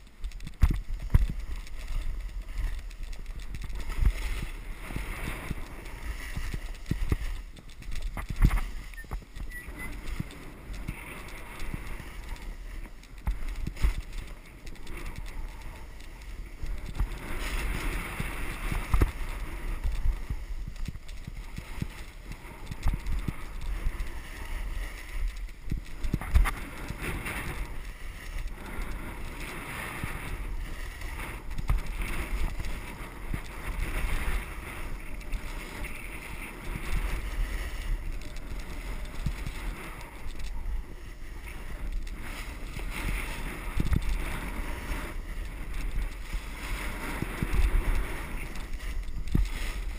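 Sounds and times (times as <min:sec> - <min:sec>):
skis scraping over snow: 0:00.0 - 0:49.9
wind buffeting microphone: 0:00.0 - 0:49.9.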